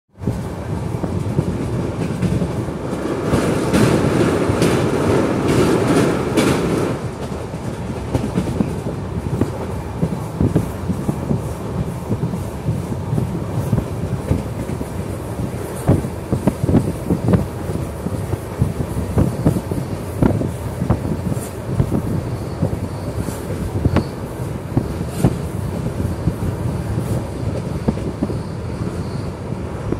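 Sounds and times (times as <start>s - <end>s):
train wheels rumbling on rail: 0.1s - 29.9s
clacks over rail joints: 0.2s - 28.3s.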